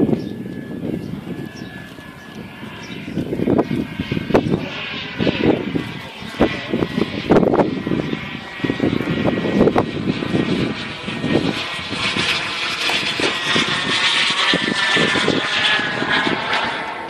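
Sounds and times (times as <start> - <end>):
jet turbine whine: 0.0 - 17.0
wind buffeting microphone: 0.0 - 17.0.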